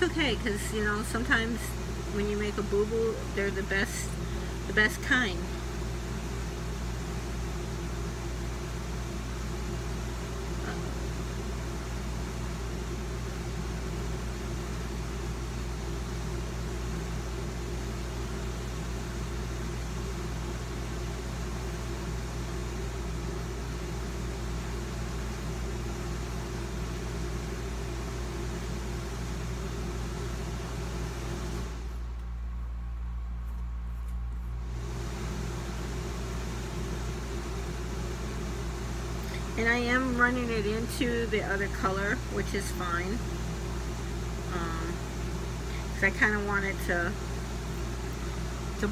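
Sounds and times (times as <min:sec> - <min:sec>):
low mechanical drone: 0:00.0 - 0:48.9.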